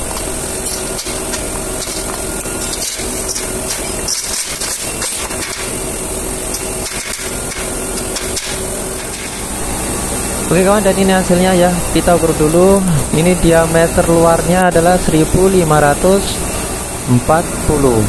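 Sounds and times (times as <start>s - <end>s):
workshop hum: 0.0s - 18.0s.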